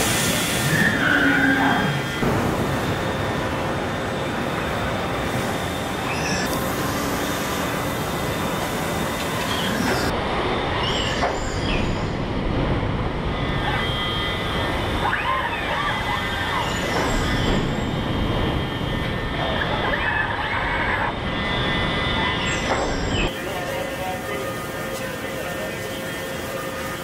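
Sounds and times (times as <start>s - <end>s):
assembly line machinery din: 0.0s - 27.0s.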